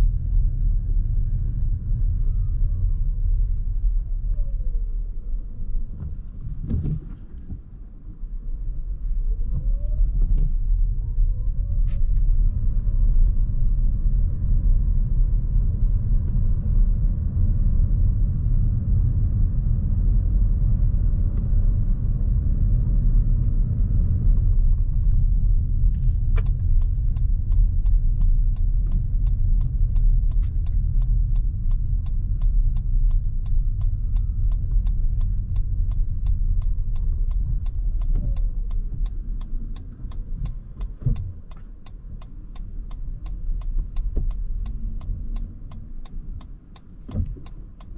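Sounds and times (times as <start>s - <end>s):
road and tyre rumble: 0.0s - 47.9s
turn signal ticking: 0.0s - 47.9s.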